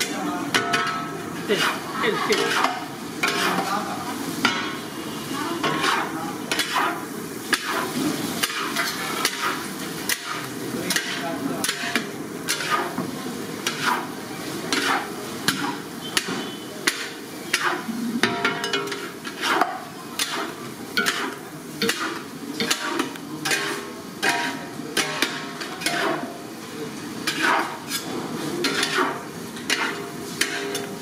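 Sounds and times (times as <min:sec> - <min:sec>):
metal spatula scraping a wok: 0:00.6 - 0:13.0, 0:13.6 - 0:26.4, 0:27.1 - 0:31.0.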